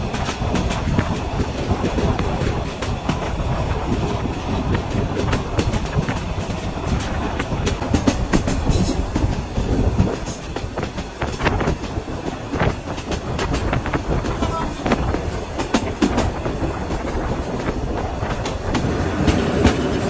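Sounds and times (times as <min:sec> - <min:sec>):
train coaches rumbling: 0:00.0 - 0:20.0
wheels clicking over rails: 0:00.0 - 0:20.0.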